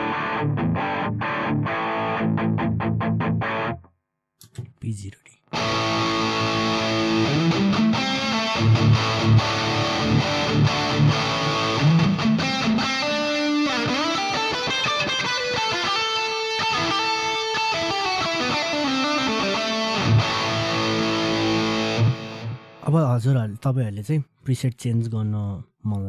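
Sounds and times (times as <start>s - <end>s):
electric guitar through effects: 0.0s - 3.8s, 5.5s - 22.8s.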